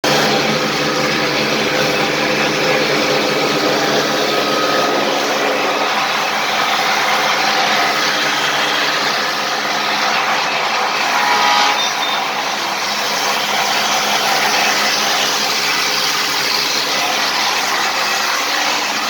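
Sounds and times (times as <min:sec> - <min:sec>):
construction machinery engine running: 0:00.0 - 0:11.2, 0:11.8 - 0:19.0.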